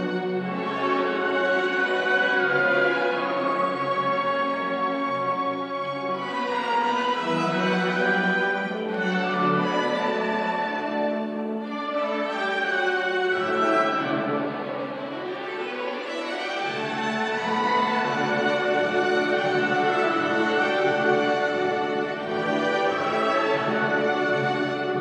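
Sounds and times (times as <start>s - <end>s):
orchestra playing classical music: 0.0s - 25.0s.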